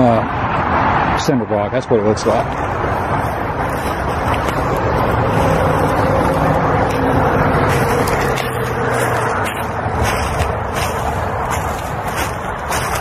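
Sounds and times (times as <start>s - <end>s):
vehicle passing on highway: 0.0s - 13.0s
footsteps in dry leaves: 2.2s - 13.0s.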